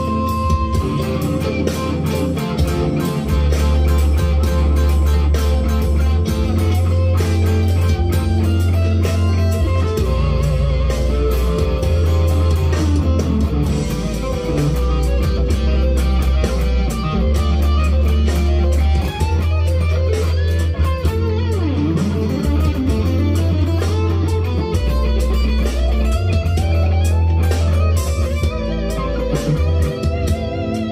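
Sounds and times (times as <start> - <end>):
electric guitar lead lines: 0.0 - 30.9
low bass notes: 0.0 - 30.9.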